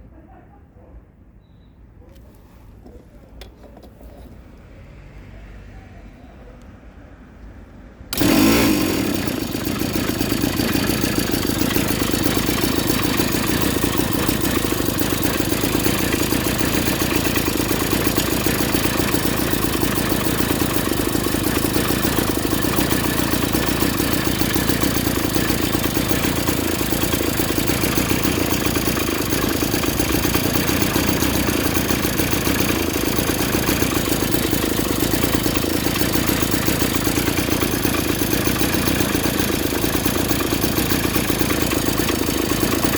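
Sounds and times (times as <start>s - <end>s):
small two-stroke engine idling: 8.1s - 42.9s.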